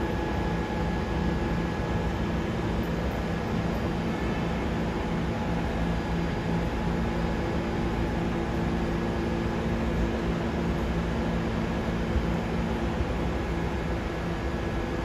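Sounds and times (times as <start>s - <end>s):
subway train hum and rumble: 0.0s - 15.0s.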